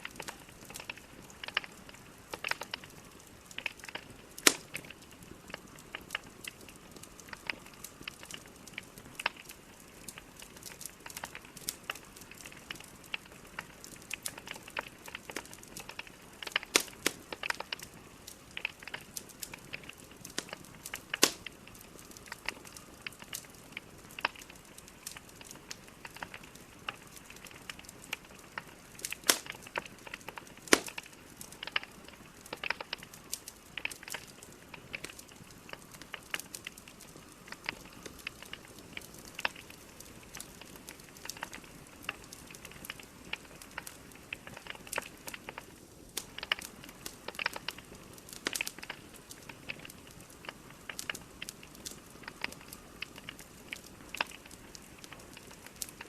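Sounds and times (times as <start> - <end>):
logs crackling in a fireplace: 0.0 - 56.0
loud wood snaps: 3.6 - 6.2, 10.1 - 17.9, 18.6 - 21.6, 24.1 - 45.6, 46.2 - 56.0.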